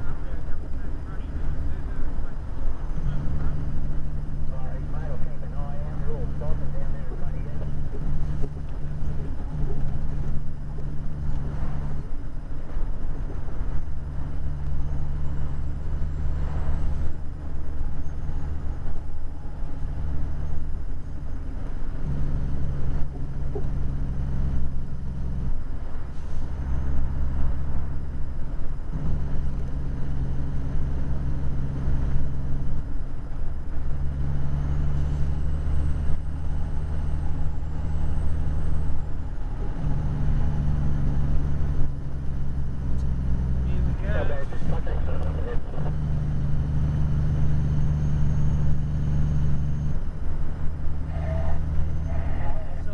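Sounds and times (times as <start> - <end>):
truck diesel engine drone: 0.0 - 52.9.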